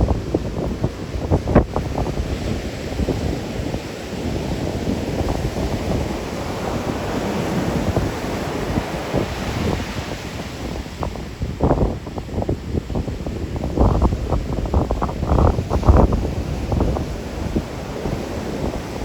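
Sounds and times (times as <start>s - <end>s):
waves breaking: 0.0s - 19.0s
wind buffeting microphone: 0.0s - 19.0s.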